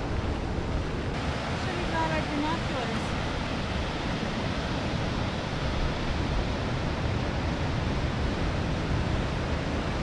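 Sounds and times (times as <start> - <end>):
ocean surf breaking: 0.0 - 10.0
wind: 0.0 - 10.0.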